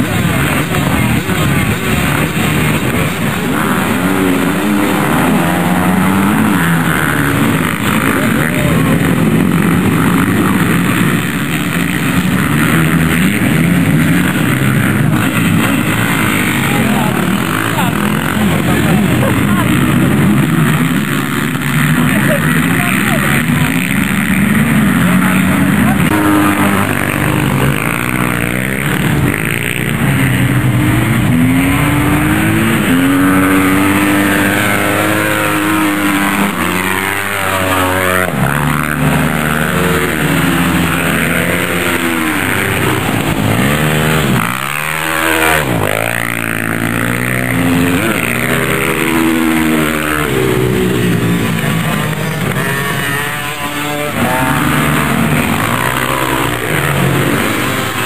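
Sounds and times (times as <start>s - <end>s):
dirt-bike engines revving: 0.0s - 58.0s.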